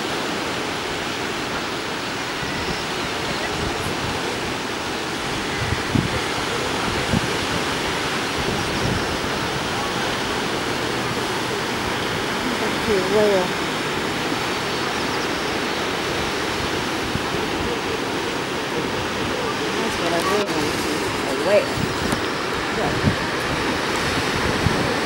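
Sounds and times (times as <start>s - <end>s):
ocean surf on rocky shore: 0.0s - 25.0s.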